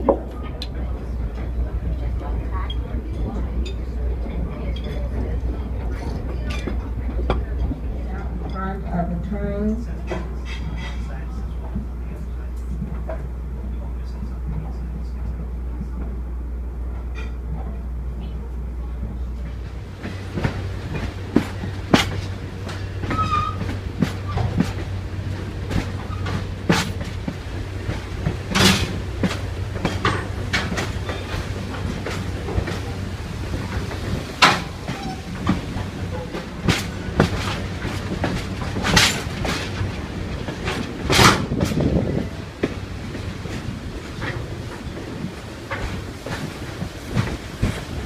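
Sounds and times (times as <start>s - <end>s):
wheels clacking over rails: 0.0s - 13.4s, 19.2s - 48.0s
train rumbling on track: 0.0s - 48.0s.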